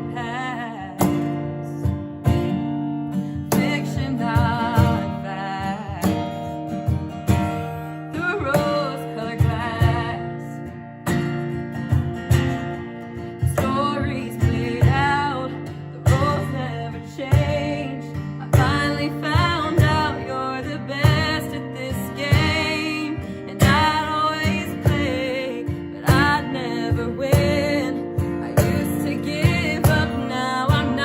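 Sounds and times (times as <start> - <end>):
woman singing: 0.0 - 2.6, 3.2 - 31.0
strummed acoustic guitar: 0.0 - 31.0.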